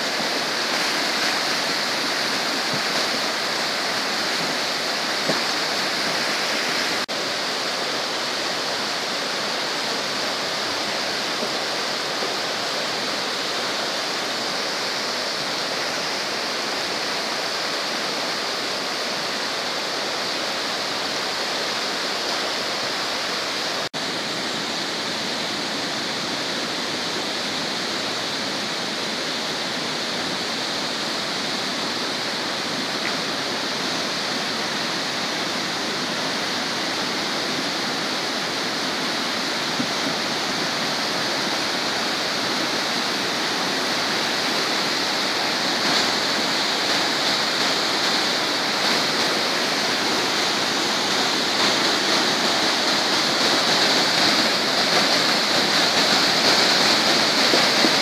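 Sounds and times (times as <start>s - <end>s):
river rushing through rapids: 0.0s - 58.0s.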